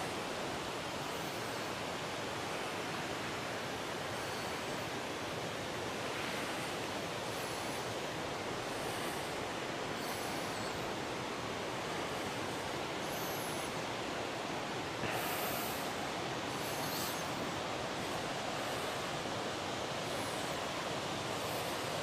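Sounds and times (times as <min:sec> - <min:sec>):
fast-flowing river rushing: 0:00.0 - 0:22.0.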